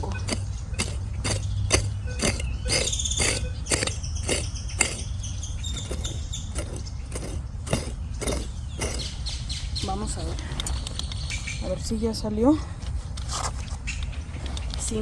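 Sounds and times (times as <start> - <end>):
bird chirping: 0.0 - 12.3.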